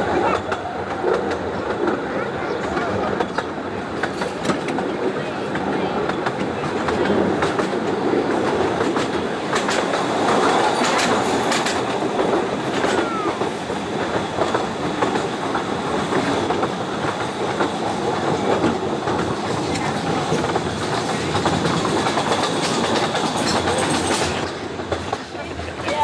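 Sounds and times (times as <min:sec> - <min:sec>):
train rumbling: 0:00.0 - 0:26.0
wheels clicking over rail joints: 0:00.2 - 0:26.0.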